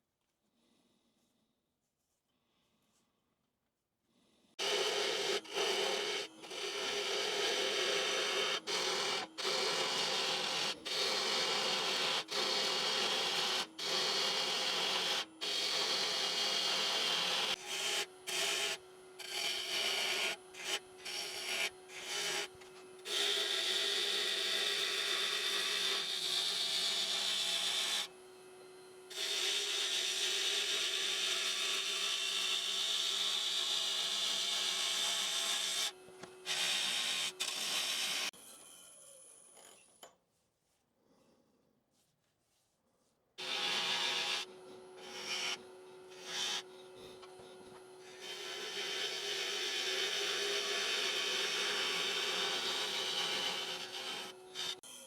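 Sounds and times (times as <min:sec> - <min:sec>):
gouge scraping spinning wood: 0:04.6 - 0:28.2, 0:29.1 - 0:38.3, 0:43.4 - 0:54.8
wood lathe hum: 0:04.6 - 0:39.2, 0:43.4 - 0:55.0.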